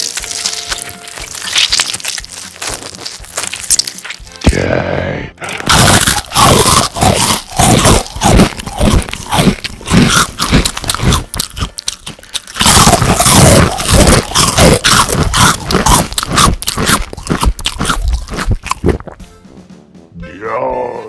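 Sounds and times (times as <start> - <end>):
crunching bites: 0.0 - 4.8, 5.4 - 19.2.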